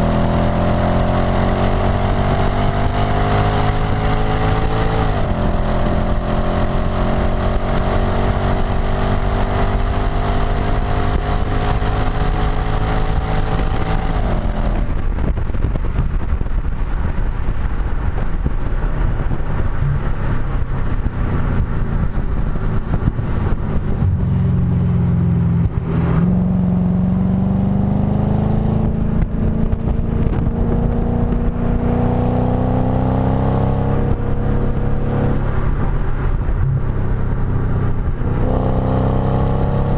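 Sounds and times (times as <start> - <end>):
car engine under hard driving: 0.0 - 39.9.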